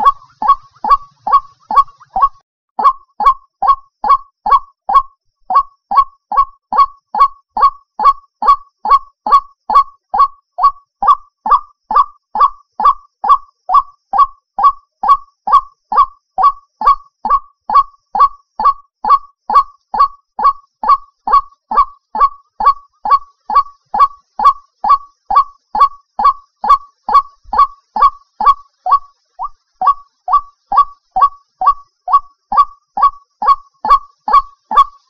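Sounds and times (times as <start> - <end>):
bird honking call: 0.0 - 15.2, 16.0 - 35.0.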